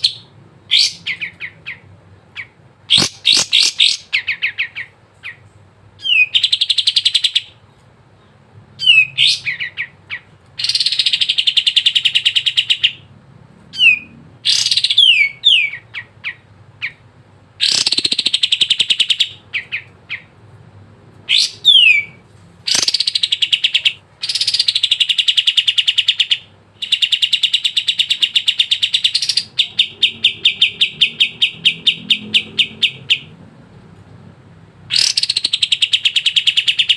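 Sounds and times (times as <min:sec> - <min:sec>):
songbird singing trills and whistles: 0:00.0 - 0:05.4, 0:06.0 - 0:07.6, 0:08.2 - 0:13.1, 0:13.7 - 0:17.0, 0:17.6 - 0:20.3, 0:21.3 - 0:33.3, 0:34.9 - 0:36.9.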